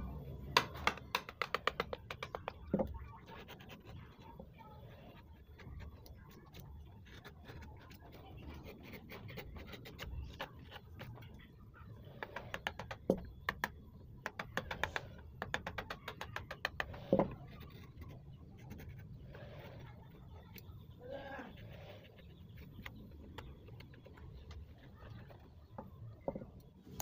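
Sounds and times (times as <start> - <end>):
chisel clicking and scraping wood: 0.6 - 11.4, 12.0 - 20.7, 21.5 - 26.7.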